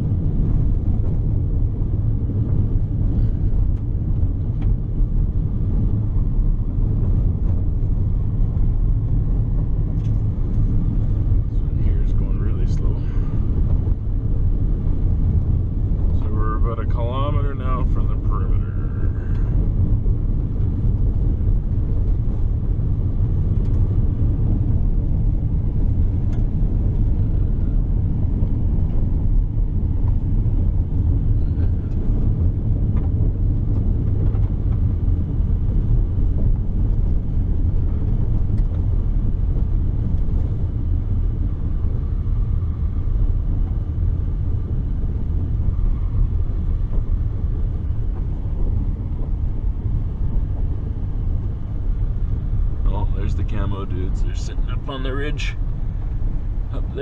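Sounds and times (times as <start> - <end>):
vehicle road and engine rumble: 0.0 - 57.0.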